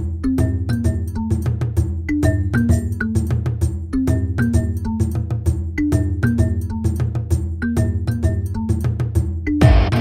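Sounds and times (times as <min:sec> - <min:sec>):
light instrumental music: 0:00.0 - 0:10.0.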